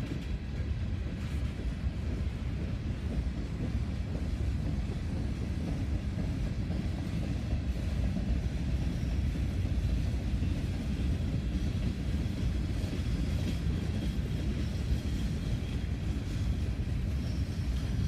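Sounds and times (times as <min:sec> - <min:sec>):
steel wheels rumbling on rail: 0:00.0 - 0:18.0.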